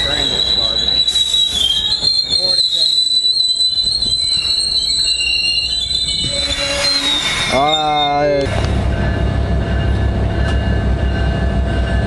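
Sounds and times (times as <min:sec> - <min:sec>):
train rumbling: 0:00.0 - 0:12.0
train wheels squealing: 0:00.0 - 0:12.0.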